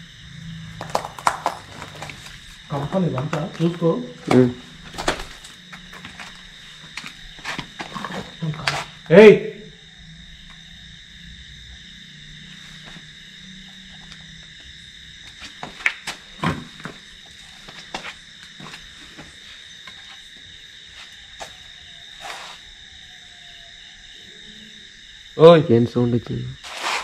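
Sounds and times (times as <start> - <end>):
night insects trilling: 0.0 - 27.0.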